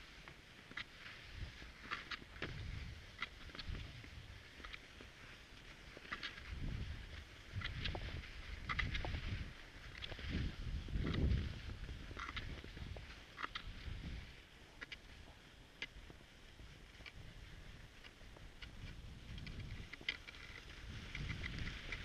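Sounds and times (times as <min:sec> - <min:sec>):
skis sliding on snow: 0:00.0 - 0:22.0.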